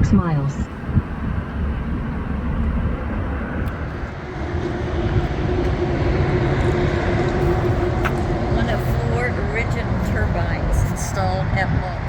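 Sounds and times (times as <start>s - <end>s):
steady low hum: 0.0s - 12.0s
vehicle rumble: 0.0s - 12.0s.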